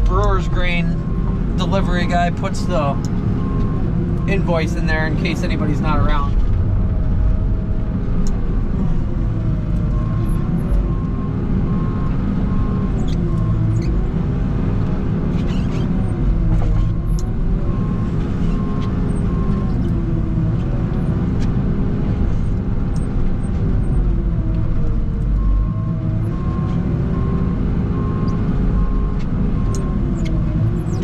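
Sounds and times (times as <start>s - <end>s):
tractor diesel engine: 0.0s - 31.0s.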